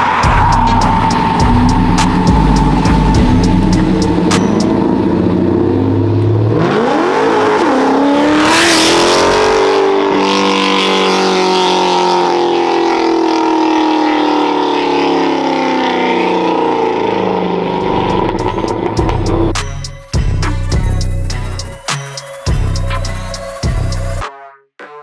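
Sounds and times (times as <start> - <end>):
vehicle engine revving: 0.0 - 21.8.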